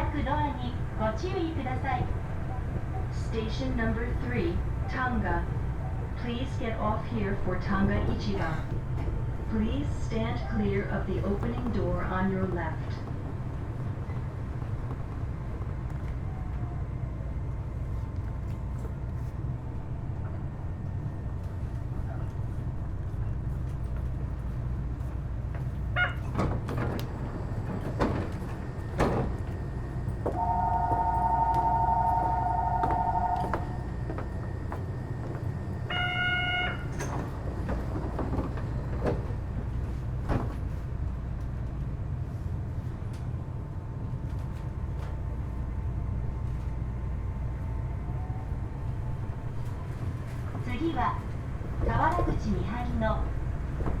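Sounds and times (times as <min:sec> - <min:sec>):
monorail equipment humming: 0:00.0 - 0:54.0.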